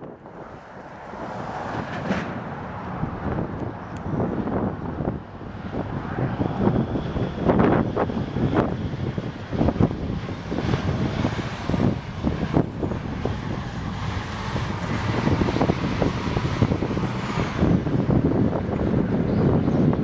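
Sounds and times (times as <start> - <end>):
haul truck diesel engine droning: 1.8 - 19.9.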